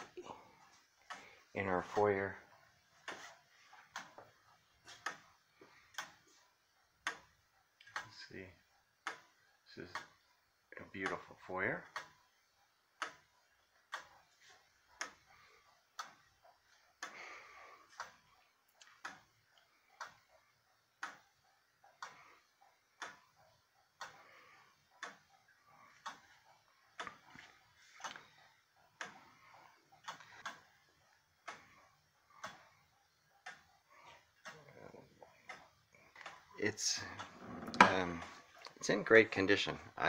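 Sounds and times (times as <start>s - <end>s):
clock ticking faintly: 0.0s - 40.0s.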